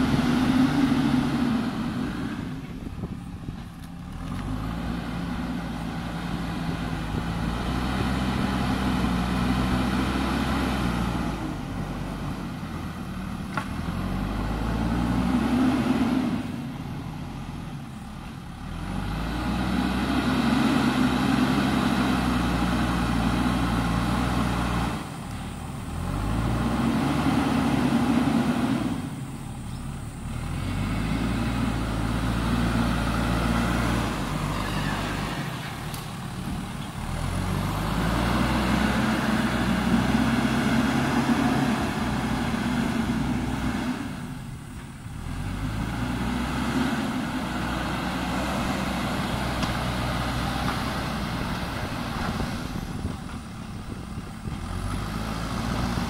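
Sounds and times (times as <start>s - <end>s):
diesel engine revving under load: 0.0s - 56.0s.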